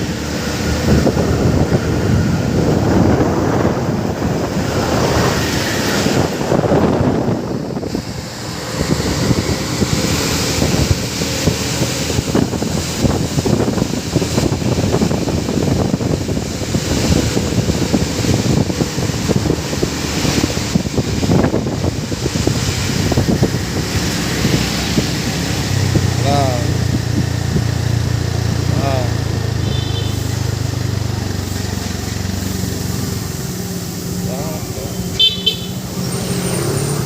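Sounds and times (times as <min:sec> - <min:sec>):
wind buffeting microphone: 0:00.0 - 0:29.7
road traffic rumble: 0:00.0 - 0:37.0.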